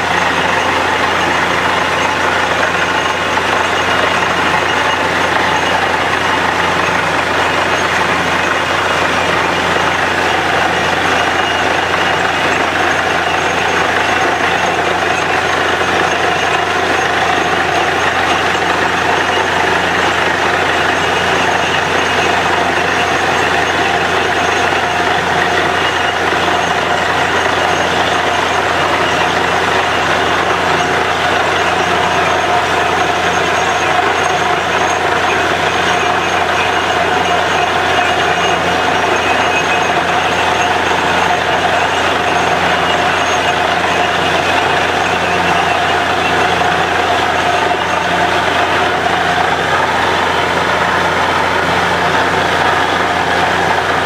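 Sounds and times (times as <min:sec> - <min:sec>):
drilling rig engine drone: 0:00.0 - 0:54.0.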